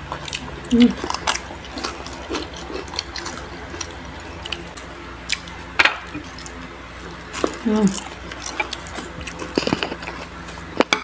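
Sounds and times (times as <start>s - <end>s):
chewing crispy food: 0.0s - 11.0s
steady low hum: 0.0s - 11.0s.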